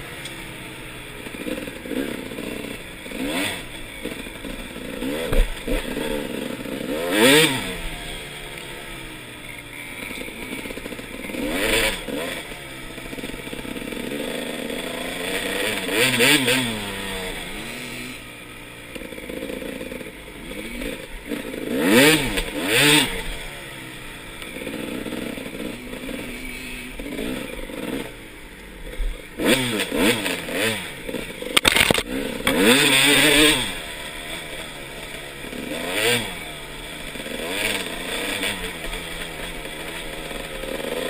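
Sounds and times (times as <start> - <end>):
two-stroke motorcycle engine revving: 0.0 - 41.0.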